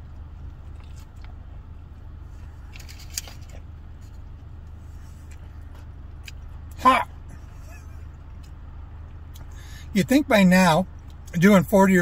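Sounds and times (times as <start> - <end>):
car hum: 0.0 - 12.0.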